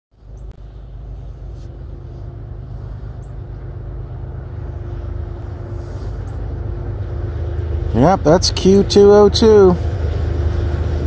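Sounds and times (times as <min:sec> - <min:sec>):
diesel locomotive rumble: 0:00.1 - 0:11.0
faint steady hum: 0:00.2 - 0:11.0.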